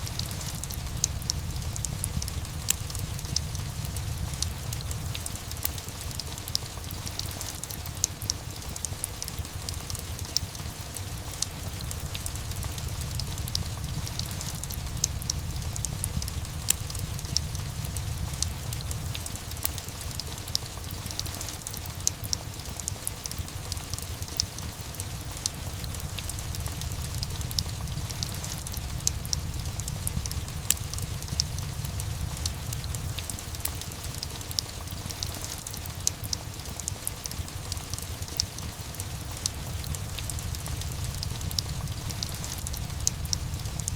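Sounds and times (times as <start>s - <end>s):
steady rain: 0.0s - 43.9s
wood fire crackling: 0.0s - 43.9s.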